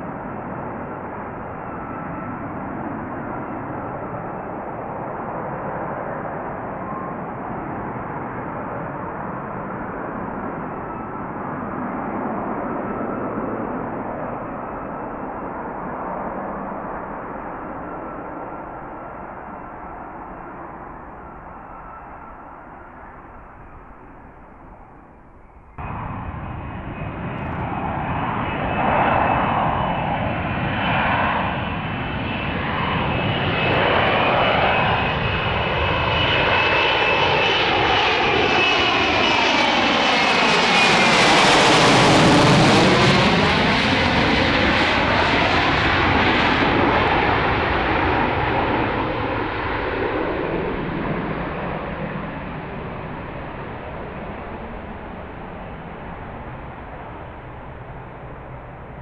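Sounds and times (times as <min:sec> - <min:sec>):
jet passing by with high whine: 0:00.0 - 0:59.0.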